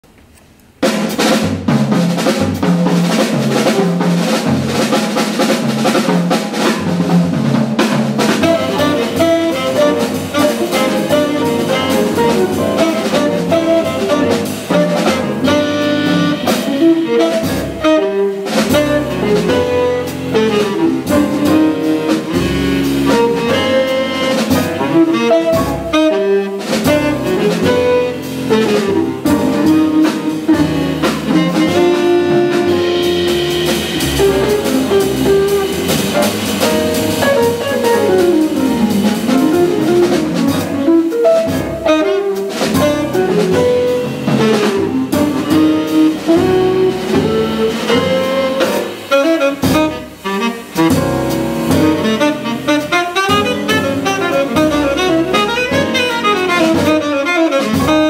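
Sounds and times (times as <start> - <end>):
jazz band playing: 0.4 - 58.0
saxophone: 8.4 - 58.0.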